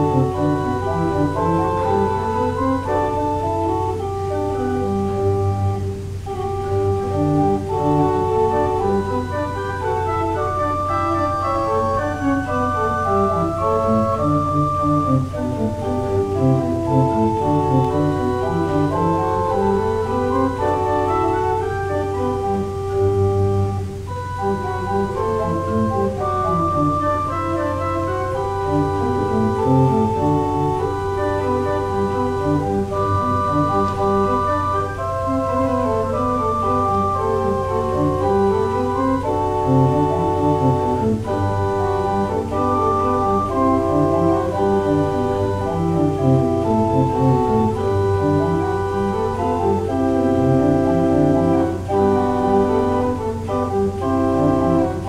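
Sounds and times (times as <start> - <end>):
church organ playing: 0.0 - 55.0.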